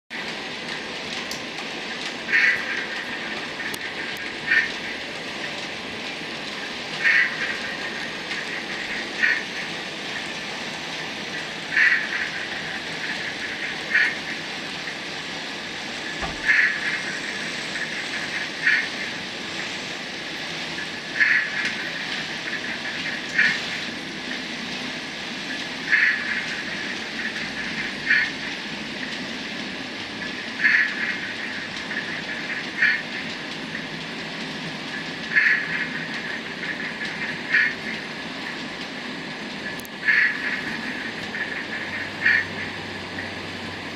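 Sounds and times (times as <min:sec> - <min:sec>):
model train running hum: 0:00.1 - 0:43.9.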